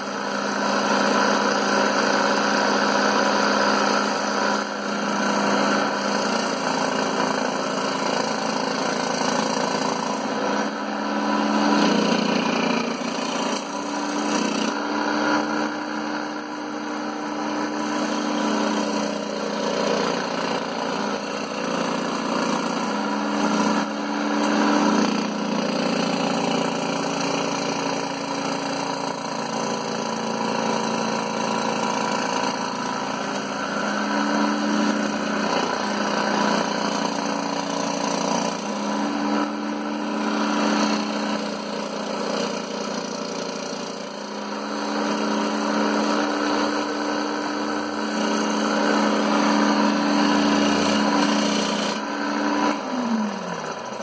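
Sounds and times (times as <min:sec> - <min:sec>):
scroll saw cutting wood: 0:00.0 - 0:54.0.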